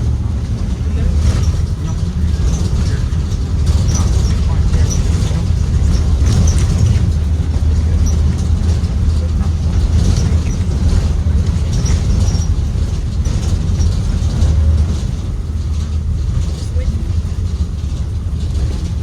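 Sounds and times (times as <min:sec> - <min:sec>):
bus body rattles: 0:00.0 - 0:19.0
bus engine and road drone: 0:00.0 - 0:19.0.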